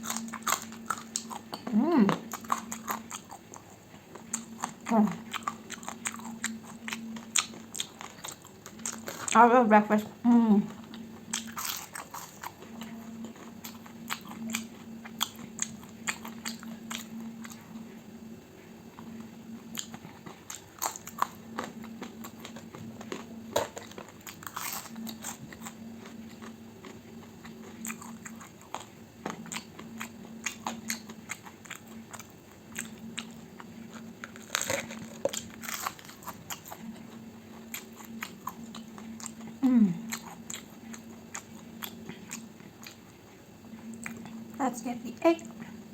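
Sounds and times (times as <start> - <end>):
chewing and crunching food: 0.0 - 45.9
faint steady hum: 0.0 - 45.9.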